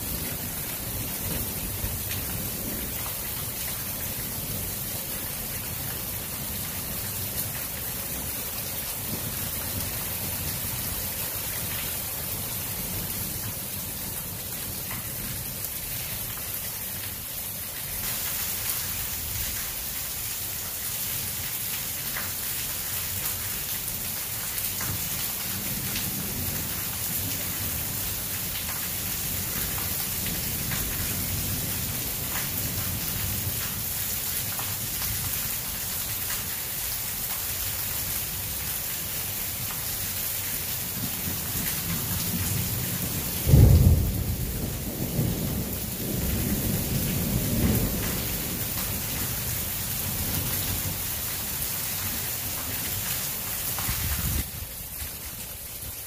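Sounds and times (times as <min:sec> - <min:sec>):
rain on concrete and trees: 0:00.0 - 0:56.0.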